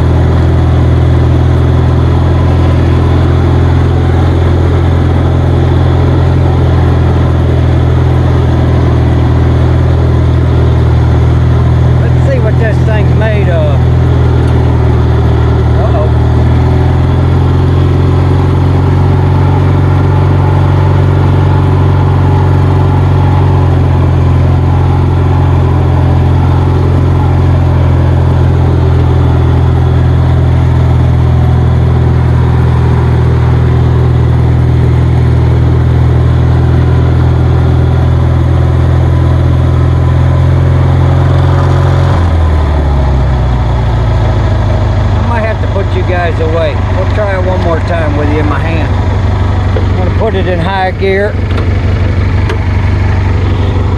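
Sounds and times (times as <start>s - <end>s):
riding mower engine running: 0.0s - 53.9s.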